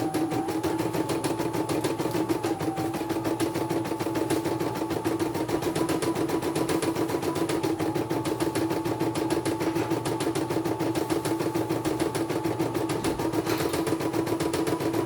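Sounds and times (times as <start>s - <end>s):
embroidery machine stitching: 0.0s - 15.0s.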